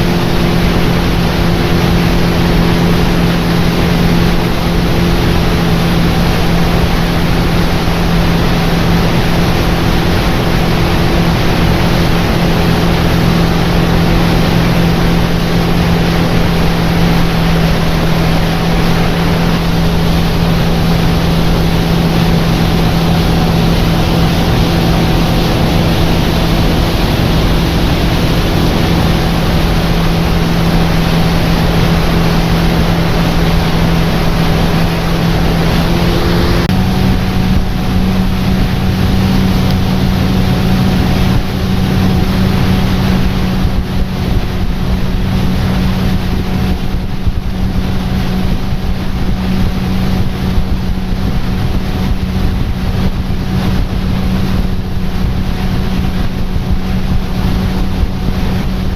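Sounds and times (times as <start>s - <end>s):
boat engine running: 0.0s - 58.9s
water rushing: 0.0s - 58.9s
wind: 0.0s - 58.9s.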